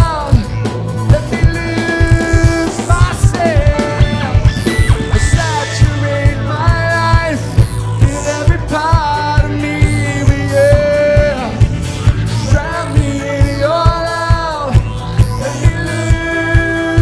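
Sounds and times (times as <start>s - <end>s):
man singing lead vocals: 0.0s - 17.0s
rock band playing: 0.0s - 17.0s
steady drum beat: 0.0s - 17.0s.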